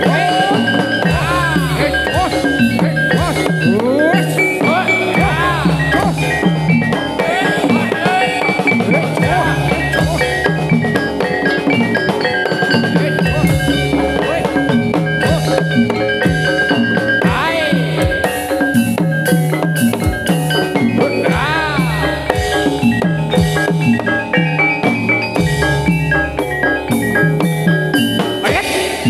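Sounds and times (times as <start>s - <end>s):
ringing bronze metallophones: 0.0s - 29.0s
steady drum beat: 0.0s - 29.0s.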